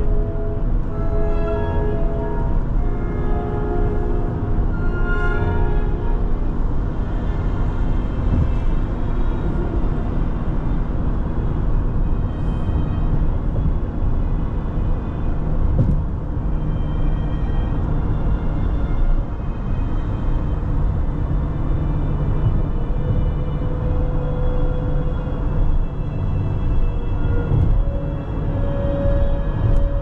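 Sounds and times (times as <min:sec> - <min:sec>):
car road and engine rumble: 0:00.0 - 0:30.0
faint orchestral music: 0:00.0 - 0:30.0.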